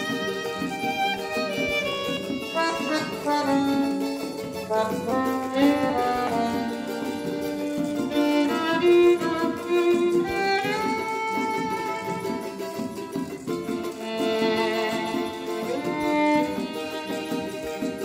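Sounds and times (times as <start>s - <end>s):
accordion: 0.0s - 18.0s
acoustic guitar: 0.0s - 18.0s
small plucked string instrument: 0.0s - 18.0s
violin melody: 0.0s - 18.0s.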